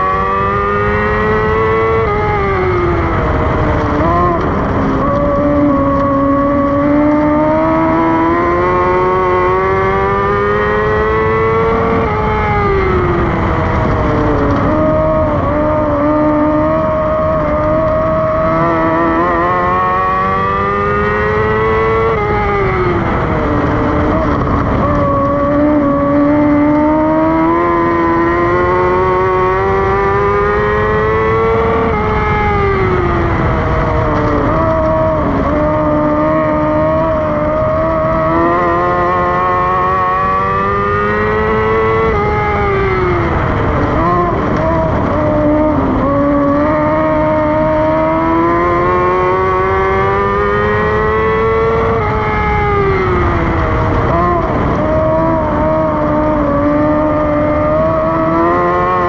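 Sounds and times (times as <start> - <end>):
racing engine revving: 0.0 - 59.0.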